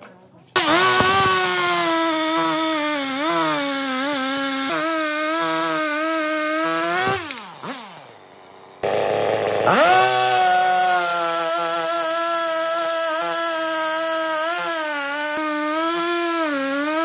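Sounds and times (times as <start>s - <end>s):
chainsaw cutting through log: 0.6s - 17.0s.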